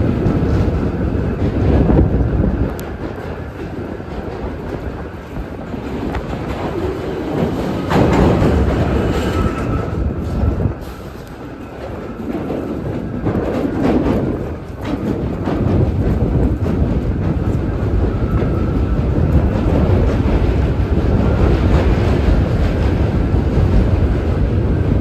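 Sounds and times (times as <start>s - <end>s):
subway train on track: 0.0s - 25.0s.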